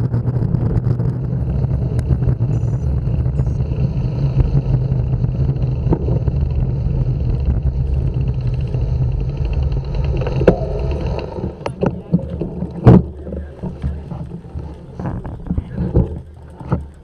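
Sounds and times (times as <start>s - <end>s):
road rumble: 0.0s - 17.0s
wind on microphone: 0.0s - 17.0s.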